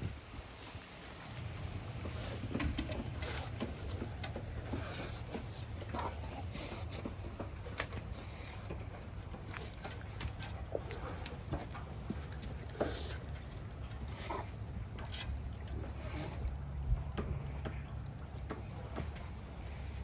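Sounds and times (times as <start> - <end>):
puppies scratching and snuffling: 0.0 - 20.0
steady low hum: 0.0 - 20.0.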